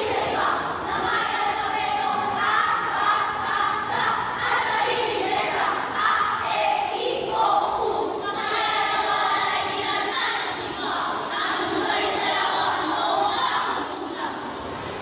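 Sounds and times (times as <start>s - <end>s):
children reciting in chorus: 0.0s - 14.5s.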